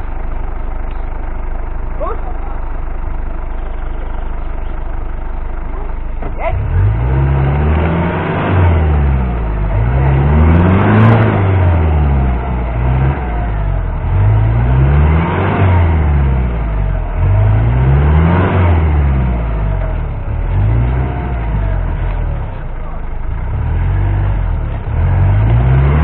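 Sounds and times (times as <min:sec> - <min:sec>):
truck engine revving: 0:01.9 - 0:26.0.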